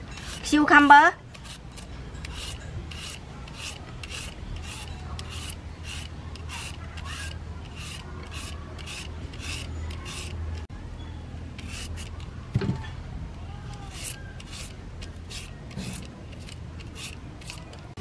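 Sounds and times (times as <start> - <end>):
peeler scraping cucumber: 0.0 - 10.7, 11.6 - 12.3, 13.6 - 18.0.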